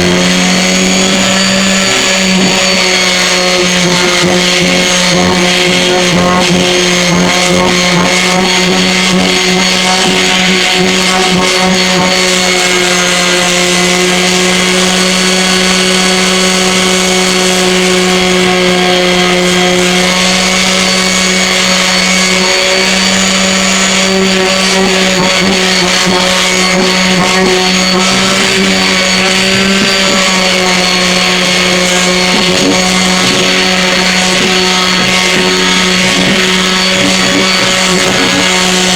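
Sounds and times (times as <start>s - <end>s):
orbital sander sanding wood: 0.0s - 38.9s.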